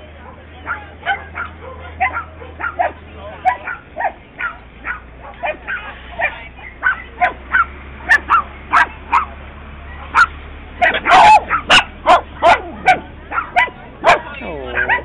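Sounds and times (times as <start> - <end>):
small dogs barking and yipping: 0.1 - 9.4, 10.0 - 15.0.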